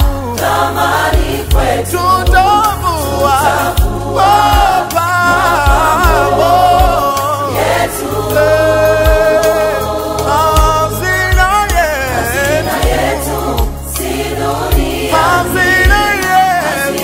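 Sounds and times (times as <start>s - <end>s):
choir singing gospel: 0.0s - 17.0s
steady beat and bass: 0.0s - 17.0s.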